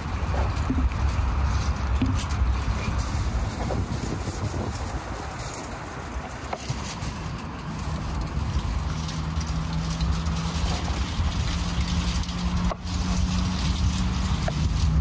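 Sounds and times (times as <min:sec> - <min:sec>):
engine running steadily: 0:00.0 - 0:15.0
outdoor background noise: 0:00.0 - 0:15.0.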